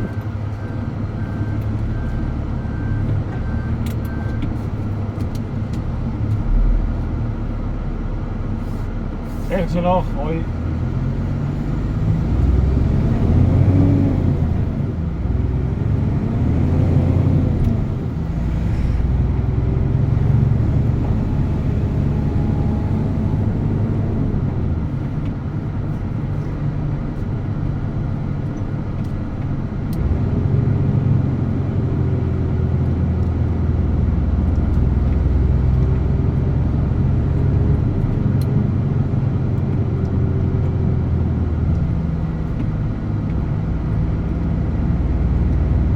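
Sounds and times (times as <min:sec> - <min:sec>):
truck diesel engine rumbling: 0:00.0 - 0:45.9.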